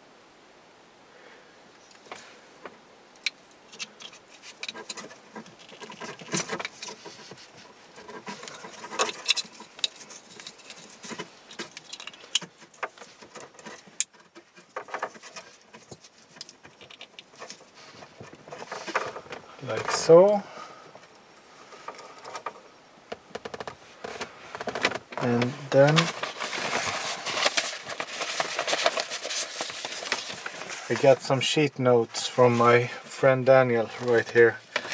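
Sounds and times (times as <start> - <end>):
wires rustling: 1.8 - 34.9.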